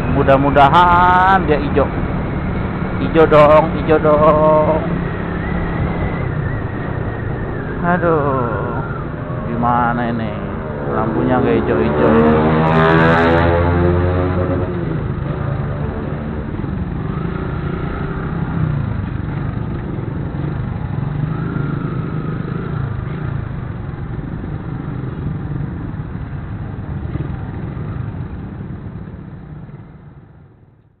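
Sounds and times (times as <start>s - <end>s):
motorcycle engines running: 0.0s - 31.0s
road noise: 0.0s - 31.0s.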